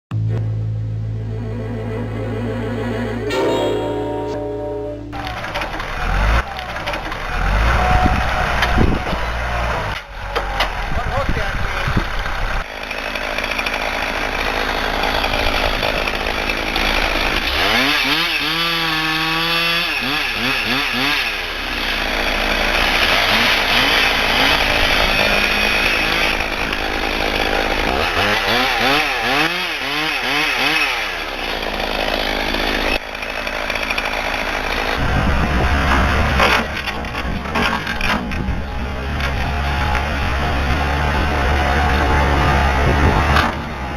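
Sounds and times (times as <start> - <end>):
chainsaw running: 5.1 - 43.9.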